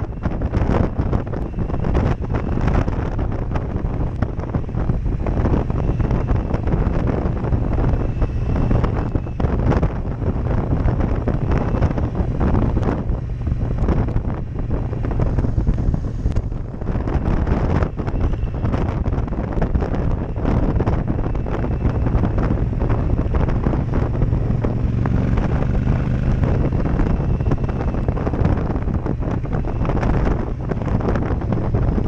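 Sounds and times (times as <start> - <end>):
motorcycle engine: 0.0 - 32.0
wind buffeting microphone: 0.0 - 32.0.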